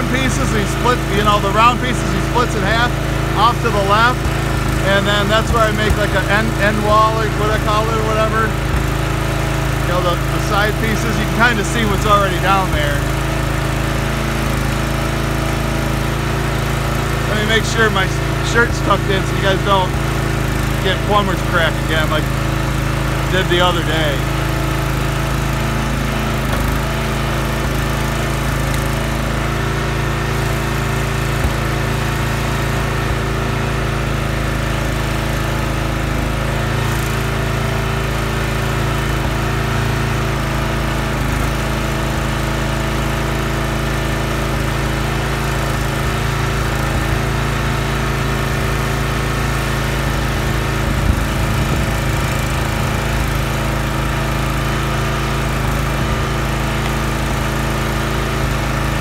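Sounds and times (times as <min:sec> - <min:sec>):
log splitter engine running: 0:00.0 - 0:59.0.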